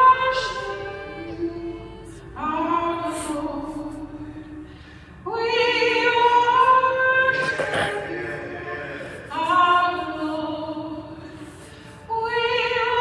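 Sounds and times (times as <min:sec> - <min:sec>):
woman singing into a microphone: 0:00.0 - 0:08.3, 0:09.3 - 0:13.0.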